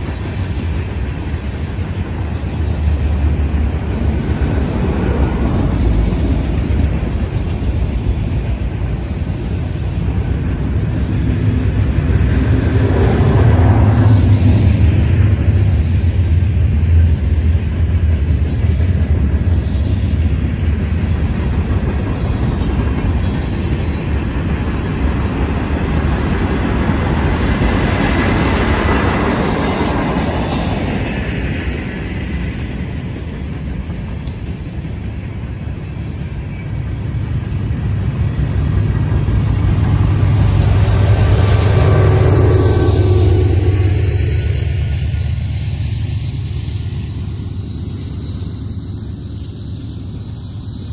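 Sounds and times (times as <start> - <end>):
freight train wheels rumbling on rails: 0.0 - 50.9.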